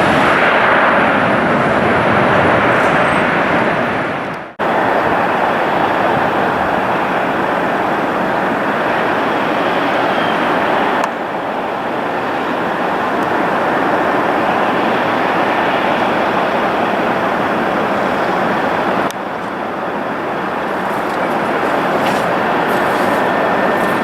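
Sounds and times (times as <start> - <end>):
jet airliner engine rushing: 0.0 - 24.0.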